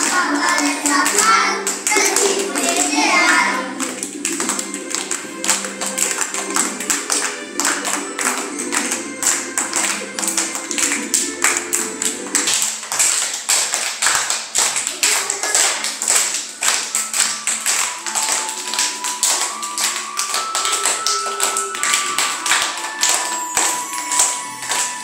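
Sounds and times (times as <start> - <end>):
children clapping in rhythm: 0.0 - 25.0
faint music: 0.0 - 25.0.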